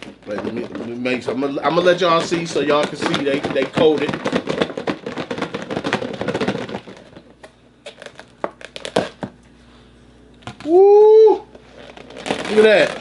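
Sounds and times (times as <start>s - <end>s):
plastic food container crinkling: 0.0s - 9.3s, 11.7s - 13.0s.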